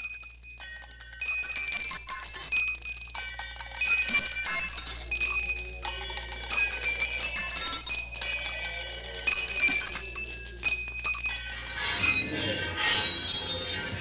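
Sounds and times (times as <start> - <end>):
metal tubes clanging on concrete: 0.0 - 14.0.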